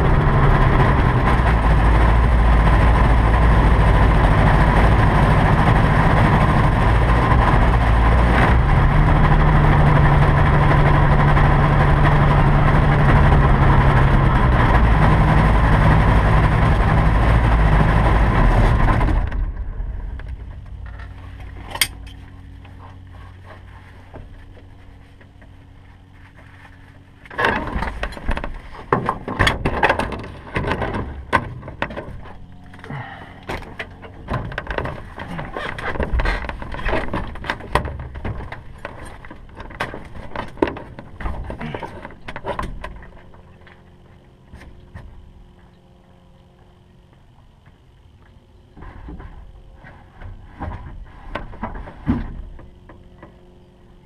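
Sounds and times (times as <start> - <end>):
knocks and clatter against airframe: 0.0 - 45.8, 47.1 - 54.0
low hum: 0.0 - 54.0.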